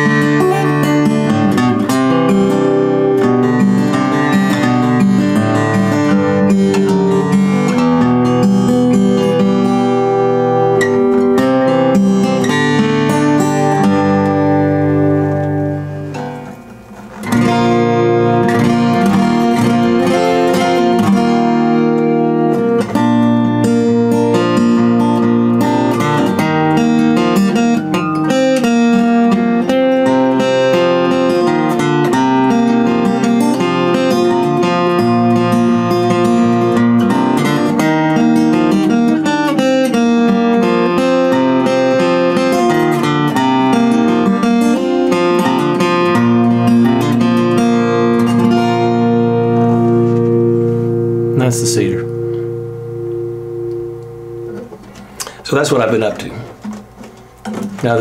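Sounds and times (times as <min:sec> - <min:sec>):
fingerstyle acoustic guitar: 0:00.0 - 0:58.0.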